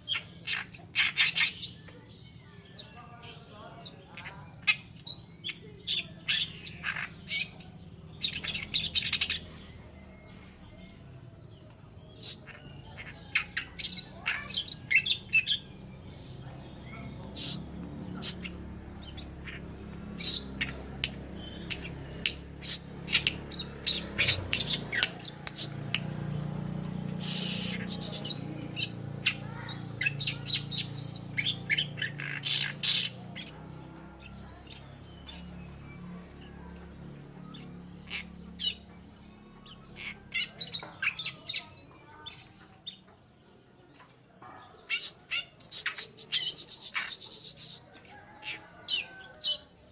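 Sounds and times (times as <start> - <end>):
warbler chattering song: 0.0 - 49.9.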